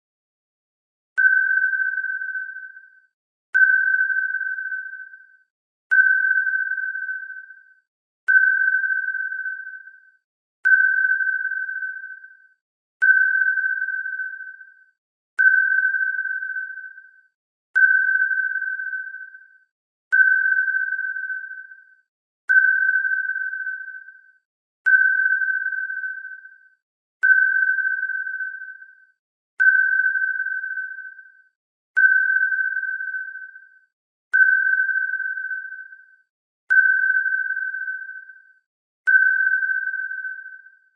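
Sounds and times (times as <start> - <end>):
sonar ping: 1.2 - 40.9.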